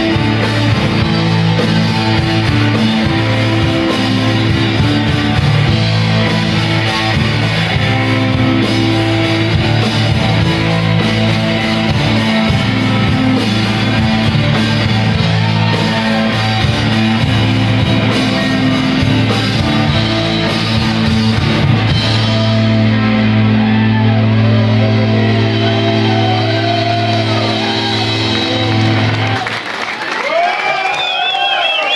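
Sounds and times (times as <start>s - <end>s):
drum kit: 0.0s - 29.9s
loud electric guitars: 0.0s - 31.9s.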